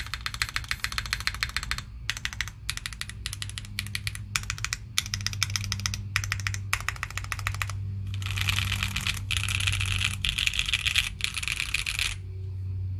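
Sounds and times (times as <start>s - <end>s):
mechanical keyboard typing: 0.0s - 12.2s.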